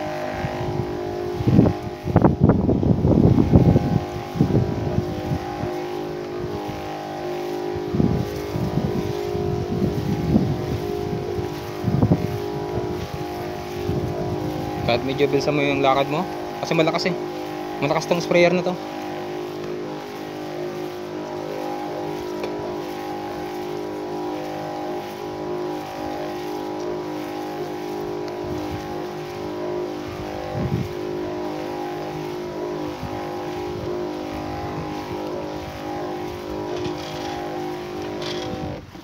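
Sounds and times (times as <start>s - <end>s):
sprayer pump motor humming: 0.0s - 39.0s.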